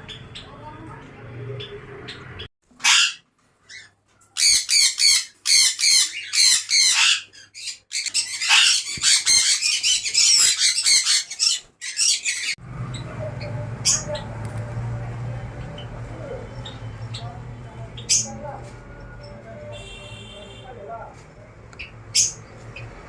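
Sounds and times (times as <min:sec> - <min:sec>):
parrots squawking: 0:01.6 - 0:14.7, 0:15.6 - 0:20.6, 0:21.8 - 0:23.0.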